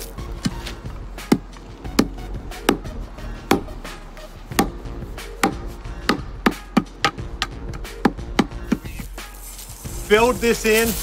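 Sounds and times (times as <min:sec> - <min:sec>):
hand tamper striking asphalt: 0:00.0 - 0:09.1.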